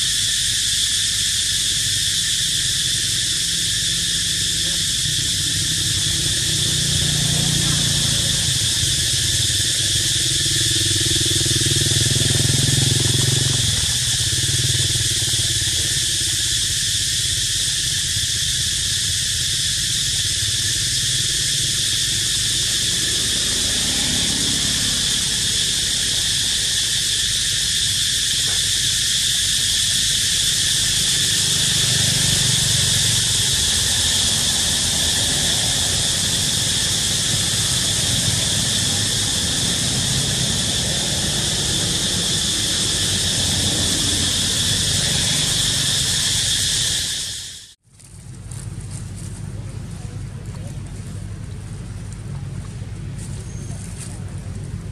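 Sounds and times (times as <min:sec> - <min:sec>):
cicadas buzzing: 0:00.0 - 0:54.9.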